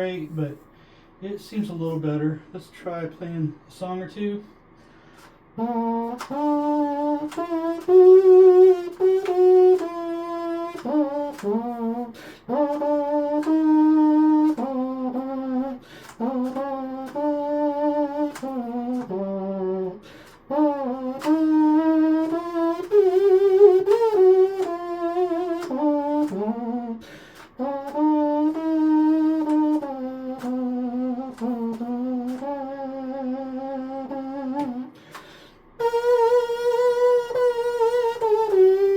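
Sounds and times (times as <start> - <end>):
trumpet playing a melody: 5.6 - 38.9.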